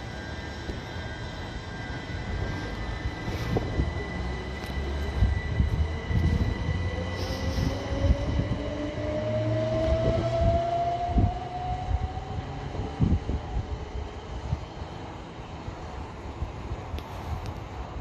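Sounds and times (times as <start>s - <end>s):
electric train motors whining: 0.0s - 16.2s.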